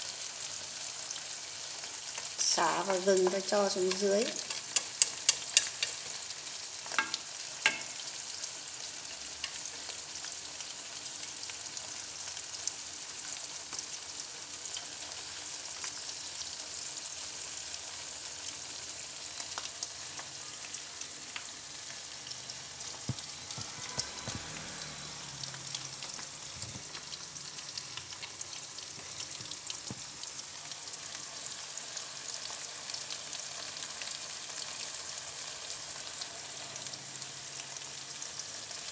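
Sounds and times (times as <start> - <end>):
shrimp sizzling in hot oil: 0.0 - 38.9.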